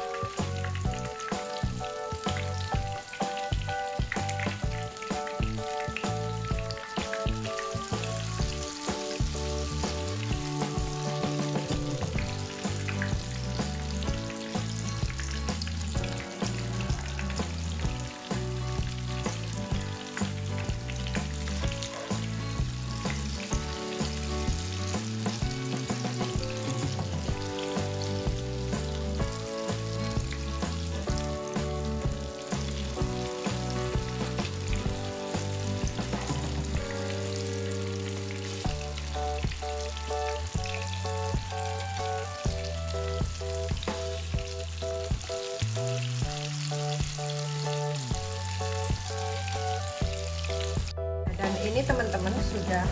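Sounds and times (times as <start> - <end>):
background music: 0.0 - 52.9
oil sizzling and crackling: 0.0 - 52.9.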